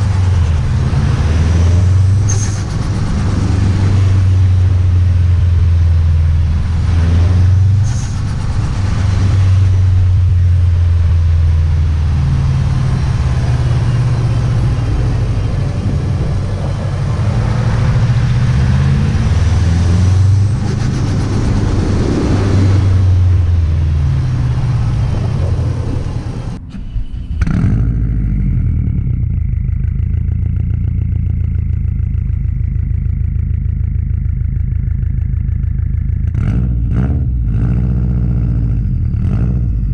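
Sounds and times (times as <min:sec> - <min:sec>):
car engine and exhaust revving: 0:00.0 - 0:39.9.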